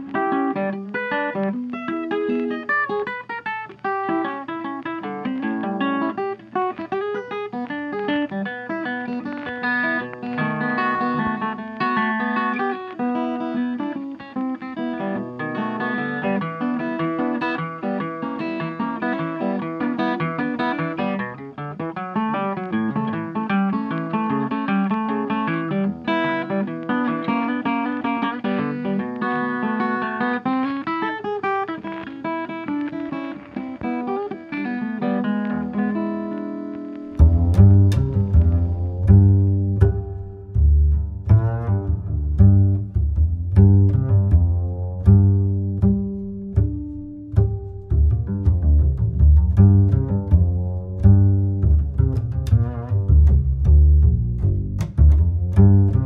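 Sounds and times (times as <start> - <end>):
plucked guitar: 0.0 - 56.0.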